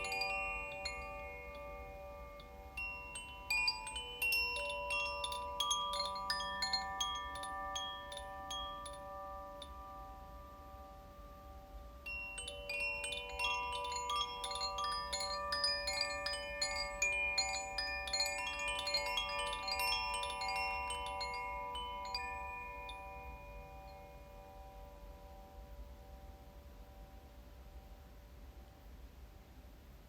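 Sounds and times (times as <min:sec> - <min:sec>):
wind chimes tinkling: 0:00.0 - 0:28.1.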